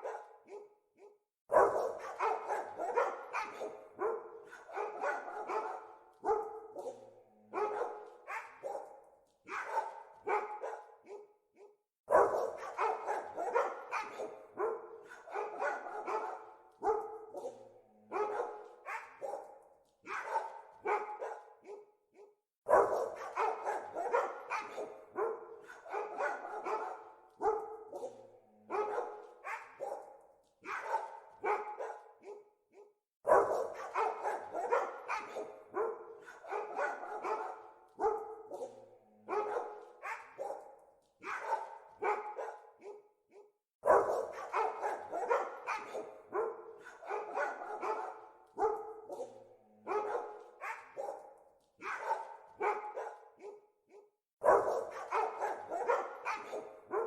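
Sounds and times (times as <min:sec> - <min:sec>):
dogs barking: 0:00.0 - 0:57.0.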